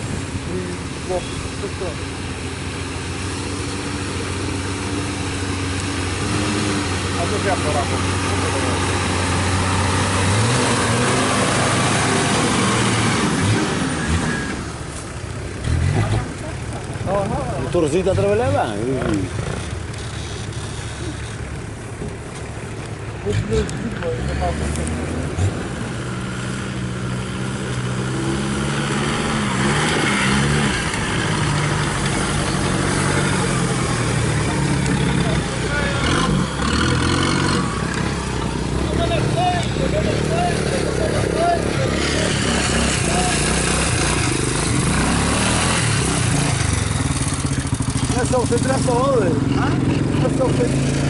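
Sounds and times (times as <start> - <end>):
small vehicle engine running: 0.0 - 51.0.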